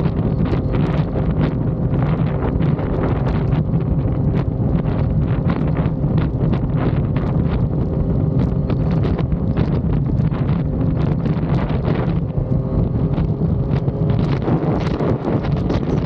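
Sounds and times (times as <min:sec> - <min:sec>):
motorcycle engine while riding: 0:00.0 - 0:16.0
wind buffeting microphone: 0:00.0 - 0:16.0.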